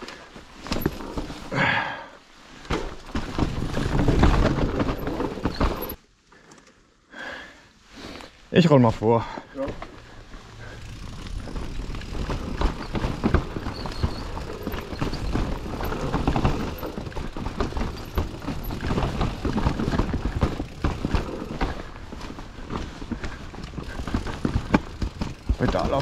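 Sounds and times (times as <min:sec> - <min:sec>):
bike tyres running over rock: 0:00.2 - 0:06.0, 0:09.2 - 0:26.0
bike knocking and clattering: 0:00.3 - 0:01.5, 0:02.6 - 0:06.0, 0:09.3 - 0:26.0.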